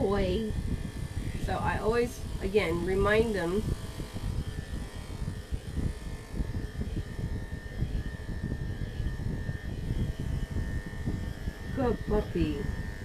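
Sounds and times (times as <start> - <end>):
electric clippers humming: 0.0 - 13.0.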